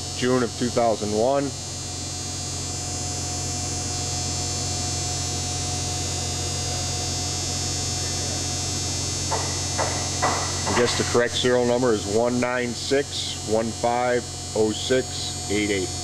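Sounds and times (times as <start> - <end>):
low electrical hum: 0.0 - 16.0
thin steady whine: 0.0 - 16.0.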